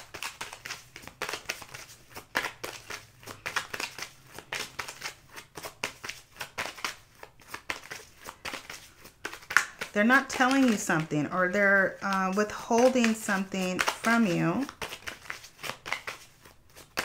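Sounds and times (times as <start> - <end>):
cards riffling: 0.0 - 11.2, 12.0 - 17.0.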